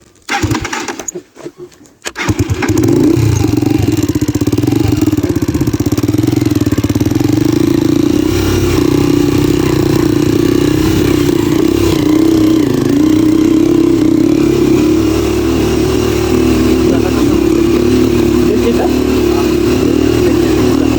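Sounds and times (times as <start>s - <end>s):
motorcycle engine running: 2.2s - 20.9s.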